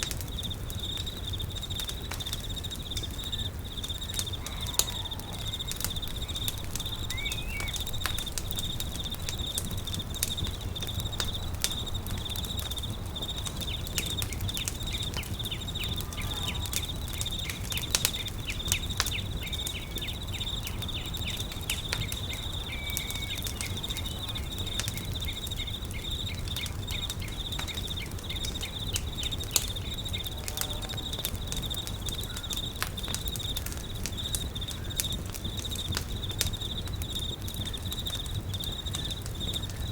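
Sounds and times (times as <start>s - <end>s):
campfire crackling and popping: 0.0s - 39.9s
insects trilling: 0.0s - 39.9s
faint chirps: 0.3s - 39.9s.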